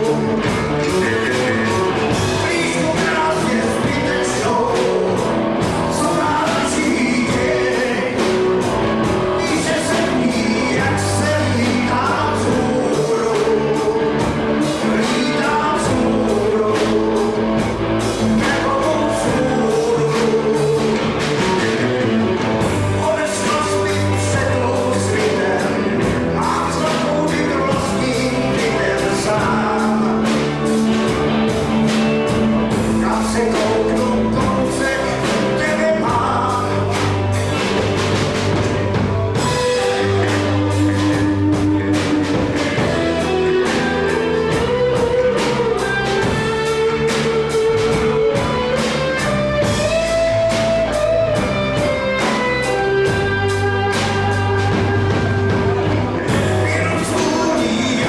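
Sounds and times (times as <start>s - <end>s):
electric guitar bending lead notes: 0.0s - 58.0s
live rock band playing: 0.0s - 58.0s.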